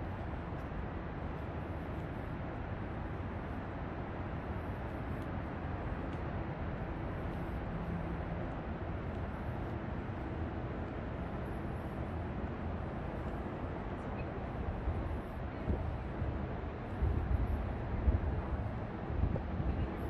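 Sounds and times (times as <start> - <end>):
low rumble of city traffic: 0.0 - 20.0.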